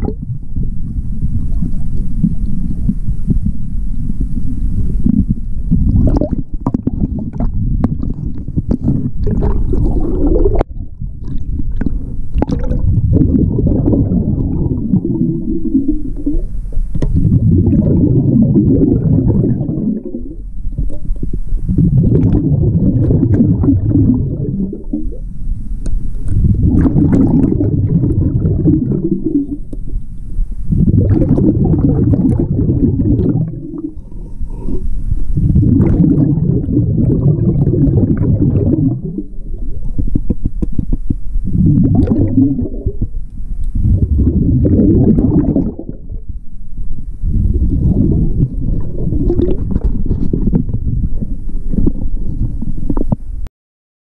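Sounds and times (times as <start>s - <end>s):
regulator bubbles gurgling underwater: 0.0s - 53.4s.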